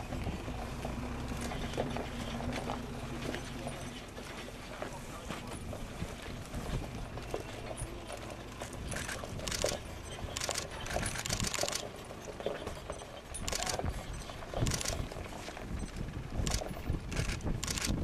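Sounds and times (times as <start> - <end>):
diesel engine running low: 0.0 - 18.0
snow chains clattering on gravel: 0.6 - 17.0.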